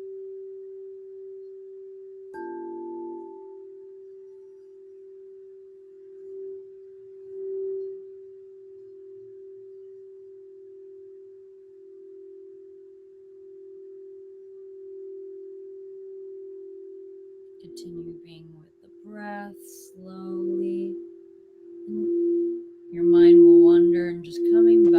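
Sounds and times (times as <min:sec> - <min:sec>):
singing bowl ringing: 0:00.0 - 0:24.9.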